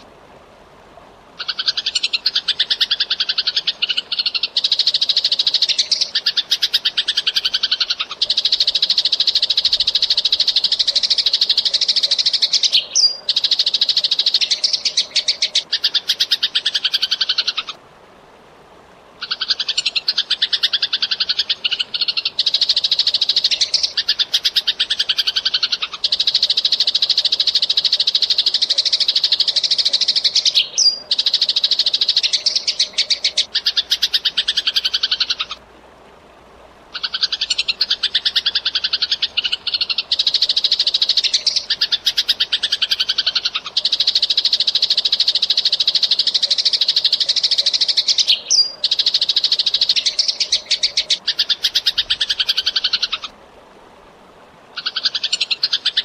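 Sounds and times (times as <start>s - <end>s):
sparrow chattering: 1.4s - 17.7s, 19.2s - 35.6s, 37.0s - 53.3s.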